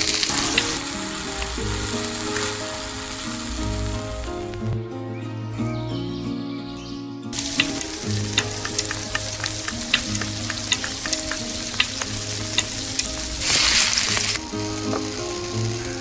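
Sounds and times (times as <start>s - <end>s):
food sizzling in a pan: 0.0s - 4.7s, 7.4s - 16.0s
stirring clicks: 0.0s - 4.7s, 7.4s - 15.9s.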